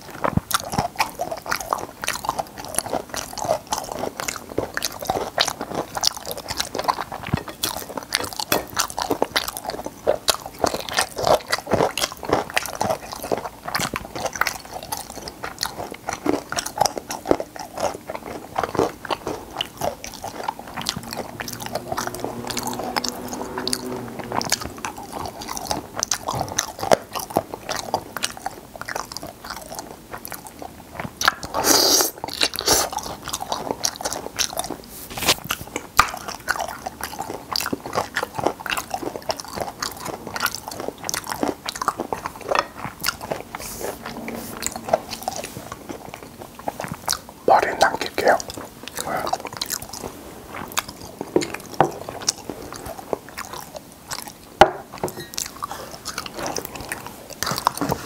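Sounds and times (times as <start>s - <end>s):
wet chewing and biting: 0.0s - 58.0s.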